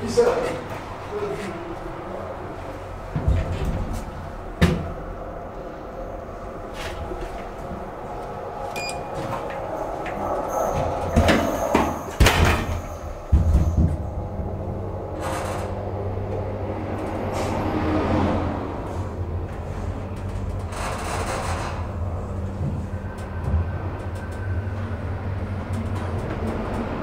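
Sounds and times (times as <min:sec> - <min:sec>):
elevator doors closing: 0:00.0 - 0:27.0.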